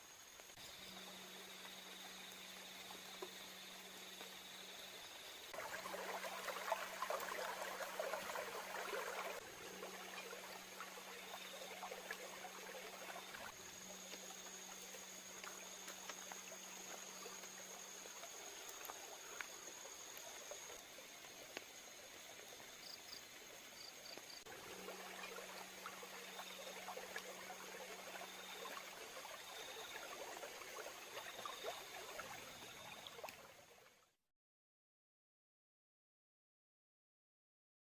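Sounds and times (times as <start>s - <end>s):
insect trill: 0.0s - 33.6s
river flowing: 0.0s - 33.8s.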